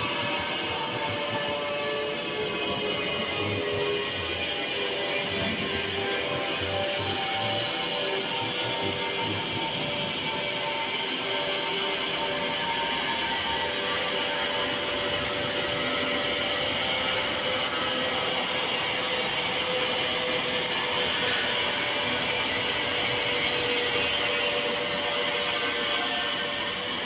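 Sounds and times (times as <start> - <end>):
steady mechanical noise: 0.0 - 27.0.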